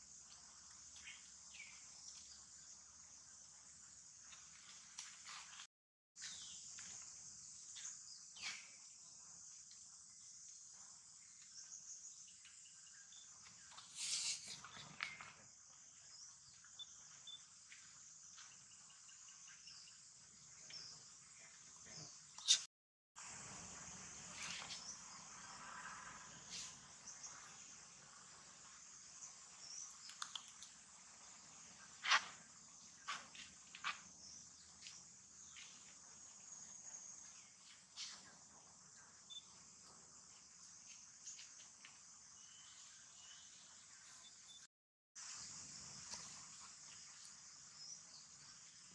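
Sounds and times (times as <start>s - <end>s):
chirring insects: 0.0s - 48.9s.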